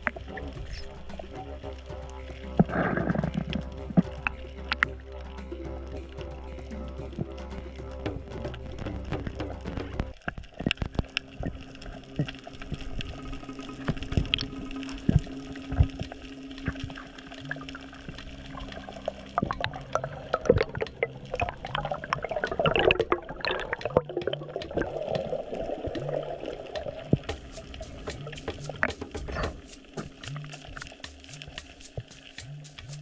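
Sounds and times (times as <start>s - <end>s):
clicks and crackles: 0.0s - 33.0s
underwater bubbling: 0.0s - 33.0s
underwater water noise: 0.0s - 33.0s.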